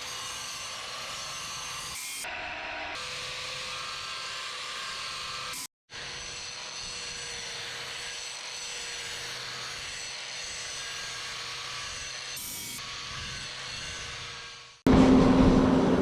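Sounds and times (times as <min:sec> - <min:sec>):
power tool grinding steel: 0:00.0 - 0:14.8.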